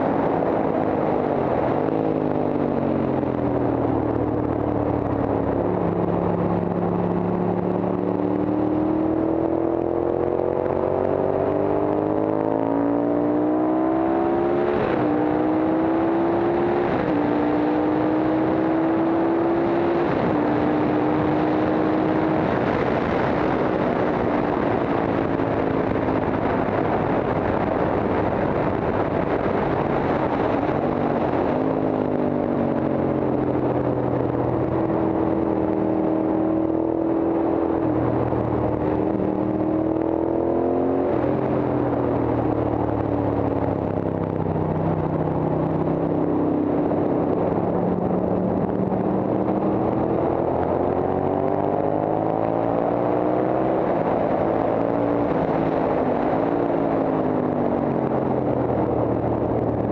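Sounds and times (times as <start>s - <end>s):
racing motorcycle engine: 0.0s - 59.9s
wind rush: 0.0s - 59.9s.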